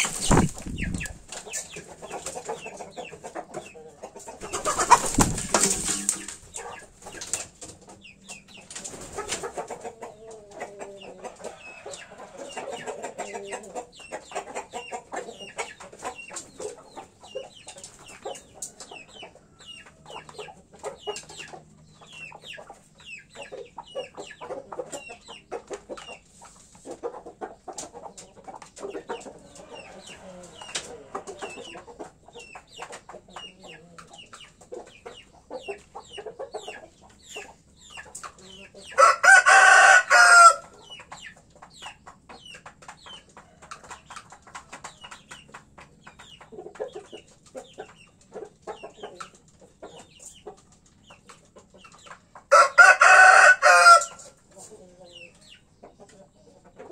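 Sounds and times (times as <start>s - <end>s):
roosters clucking: 0.0s - 56.9s.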